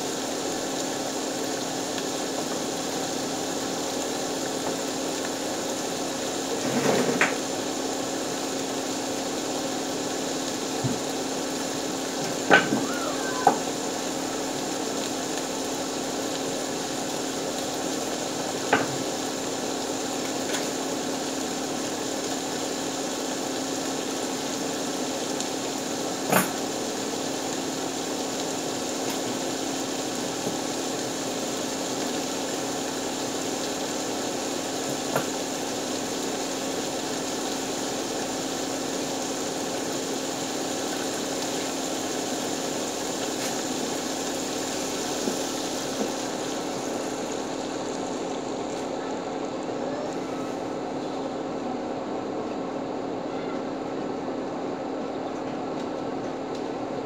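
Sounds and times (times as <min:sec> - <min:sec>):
fish sizzling in a frying pan: 0:00.0 - 0:49.6.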